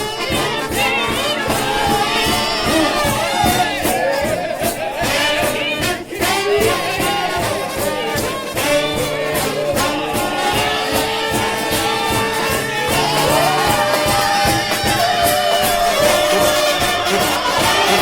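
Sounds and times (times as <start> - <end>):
quick drum beat: 0.0 - 18.0
trombones playing loud chords: 0.0 - 18.0.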